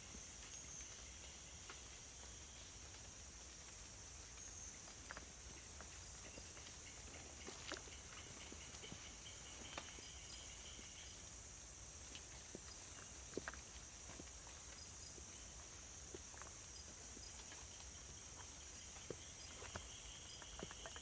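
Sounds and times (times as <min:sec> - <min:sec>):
forest insects droning: 0:00.0 - 0:21.0.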